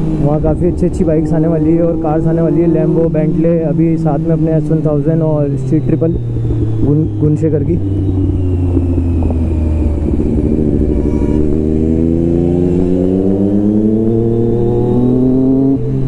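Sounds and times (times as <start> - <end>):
motorcycle engine accelerating: 0.0 - 16.0
motorcycle engines humming: 0.0 - 16.0.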